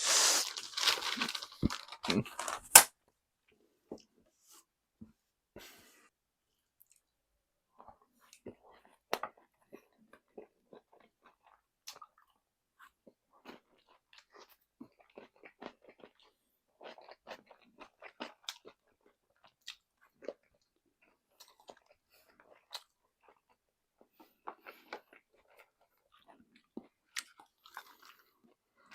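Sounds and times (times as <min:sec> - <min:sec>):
person chewing crispy chicken: 0:00.0 - 0:02.4, 0:07.8 - 0:28.9.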